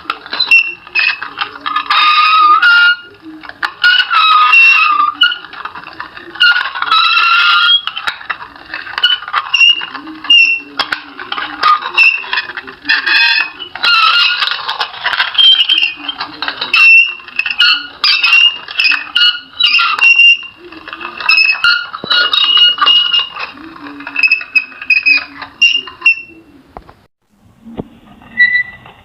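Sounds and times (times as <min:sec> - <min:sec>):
squealing creaks: 0:00.0 - 0:27.1, 0:28.2 - 0:29.0.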